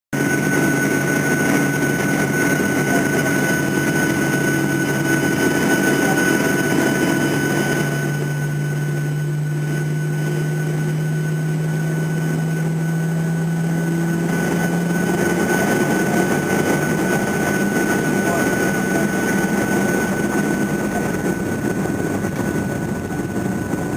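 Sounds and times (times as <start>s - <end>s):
jet engine cabin drone: 0.2s - 23.9s.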